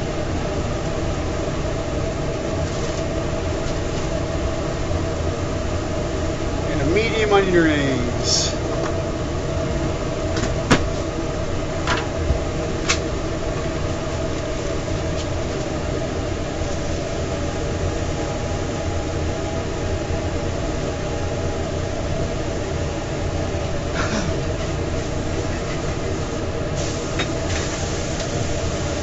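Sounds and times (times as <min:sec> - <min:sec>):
kitchen equipment drone: 0:00.0 - 0:29.0.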